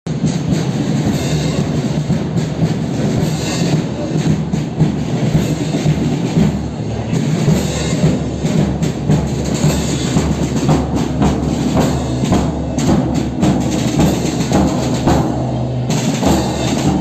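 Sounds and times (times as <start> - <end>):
low rumble of street march: 0.1 - 17.0
music: 0.1 - 17.0.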